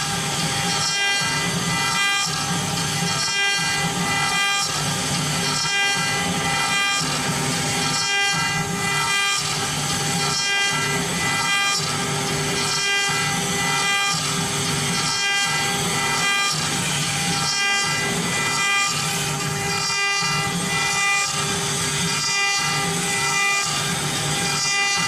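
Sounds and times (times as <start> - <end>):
router bit rasping through wood: 0.0 - 25.0
router spindle high whine: 0.0 - 25.0.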